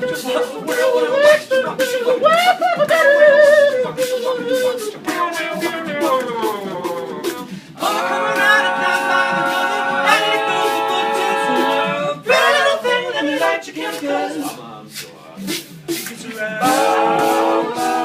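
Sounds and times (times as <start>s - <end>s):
beatboxing clicks: 0.0s - 12.0s, 13.4s - 18.0s
sung backing vocals: 0.0s - 18.0s.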